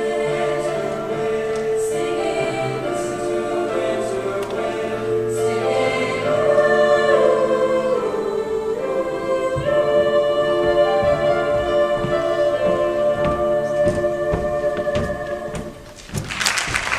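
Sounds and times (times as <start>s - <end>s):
mixed choir singing held chords: 0.0s - 16.1s.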